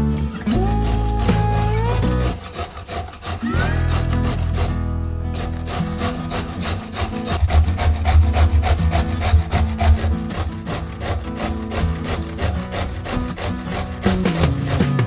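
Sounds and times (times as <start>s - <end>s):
background music: 0.0s - 15.0s
zucchini grating on metal grater: 0.5s - 15.0s.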